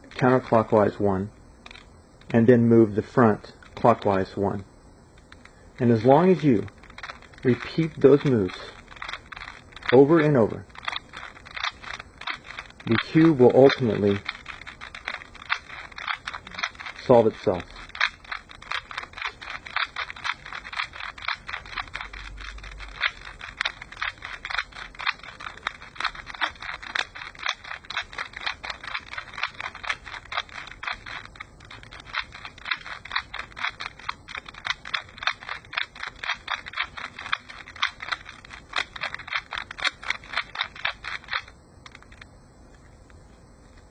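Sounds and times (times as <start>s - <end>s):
plastic puzzle cube clicking: 1.6s - 2.4s, 5.2s - 42.3s.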